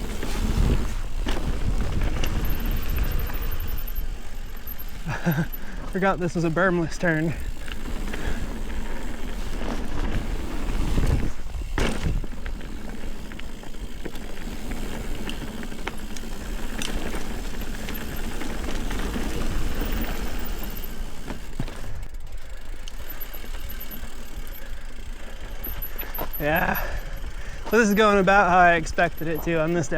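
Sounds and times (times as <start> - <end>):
bike chain and frame rattling: 0.0 - 29.9
bike tyres rolling over dirt: 0.0 - 29.9.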